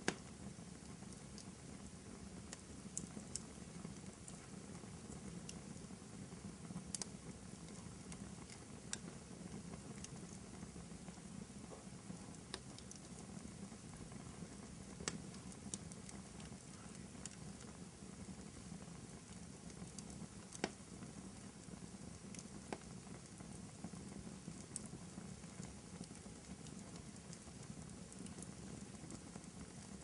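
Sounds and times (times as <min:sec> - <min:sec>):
fireplace crackling: 0:00.0 - 0:30.0.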